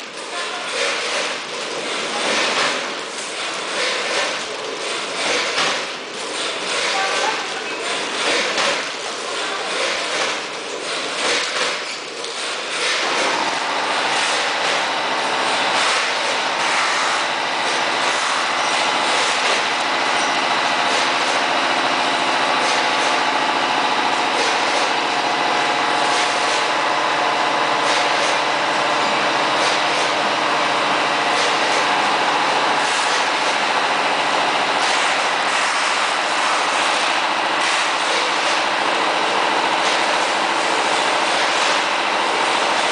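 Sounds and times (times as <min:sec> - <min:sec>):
packing machine humming: 0:00.0 - 0:42.9.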